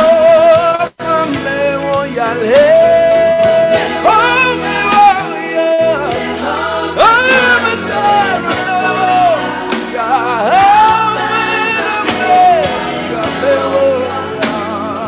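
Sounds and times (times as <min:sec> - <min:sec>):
band accompaniment: 0:00.0 - 0:15.0
gospel singing: 0:00.0 - 0:15.0.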